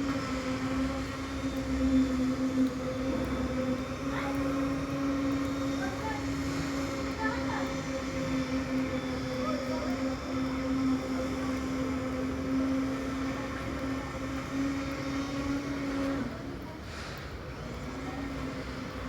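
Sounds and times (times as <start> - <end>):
machine engine humming: 0.0 - 16.4.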